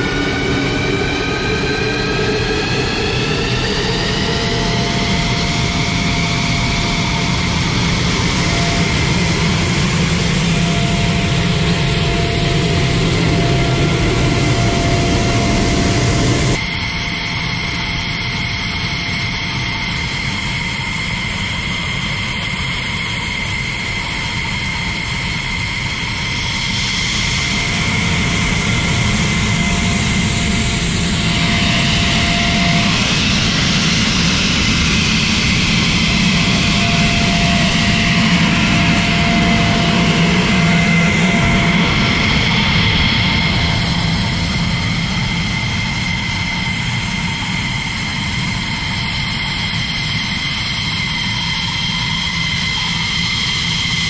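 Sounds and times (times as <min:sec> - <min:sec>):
jet engine idling with turbine whine: 0:00.0 - 0:54.0.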